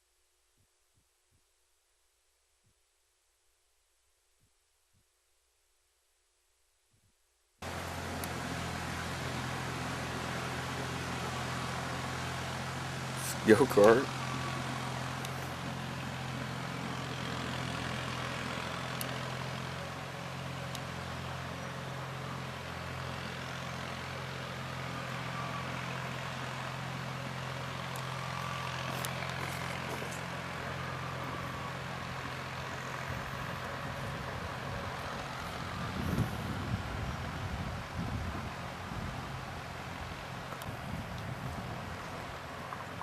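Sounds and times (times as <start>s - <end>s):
engine low hum: 7.6s - 43.0s.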